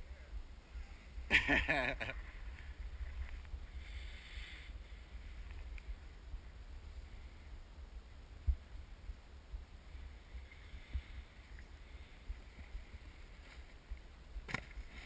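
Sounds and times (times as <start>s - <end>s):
wind and snowboard rumble: 0.0s - 15.0s.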